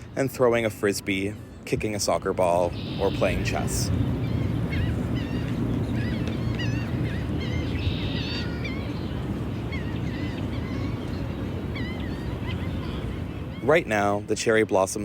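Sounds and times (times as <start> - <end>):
birds chirping: 0.2 - 14.4.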